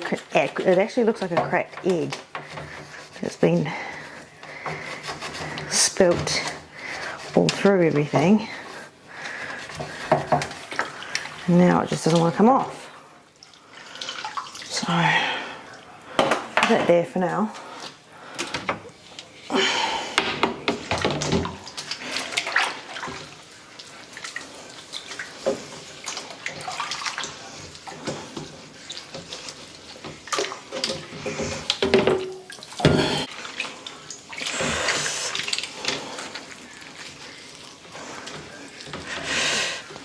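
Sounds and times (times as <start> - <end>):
tap water running and splashing: 0.0 - 40.0.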